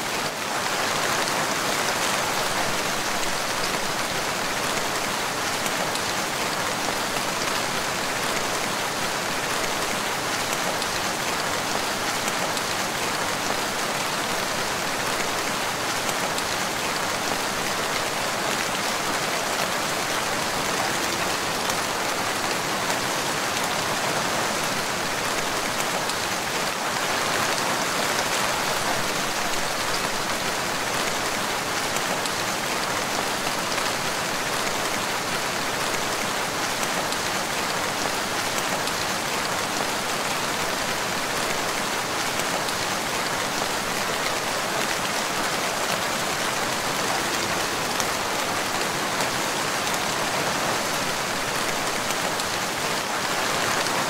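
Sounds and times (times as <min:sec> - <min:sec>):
rain falling on water: 0:00.0 - 0:54.0.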